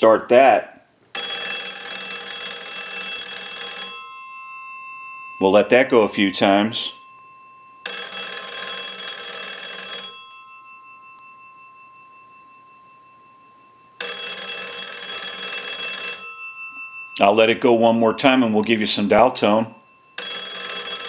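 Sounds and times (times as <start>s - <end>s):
telephone bell gongs ringing: 1.2s - 17.3s, 19.8s - 21.0s.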